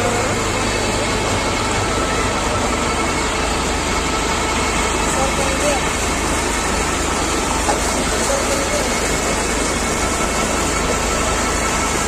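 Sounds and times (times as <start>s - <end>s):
tractor engine running: 0.0s - 12.0s
water gushing into tank: 0.0s - 12.0s.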